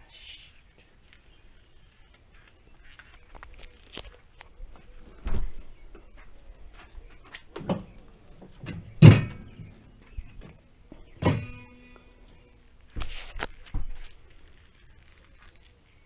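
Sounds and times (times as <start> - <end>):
faint handling noise: 0.7 - 16.0.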